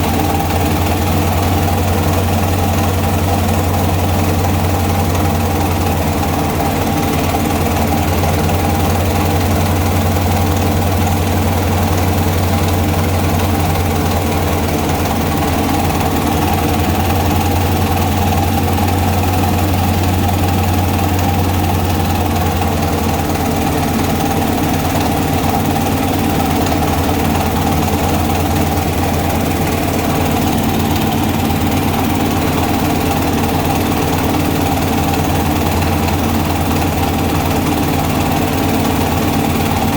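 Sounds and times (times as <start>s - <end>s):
diesel-driven grinding mill droning: 0.0s - 39.9s.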